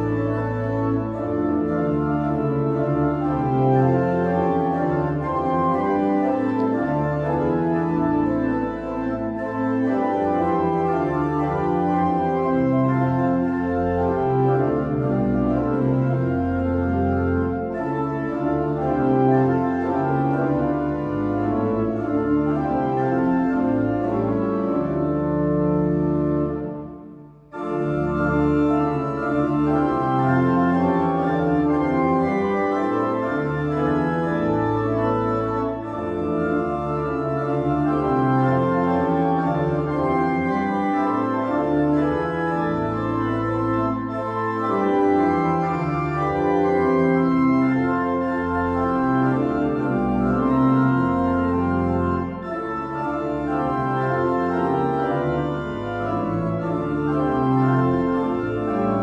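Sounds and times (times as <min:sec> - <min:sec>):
organ playing a hymn tune: 0:00.0 - 0:59.0.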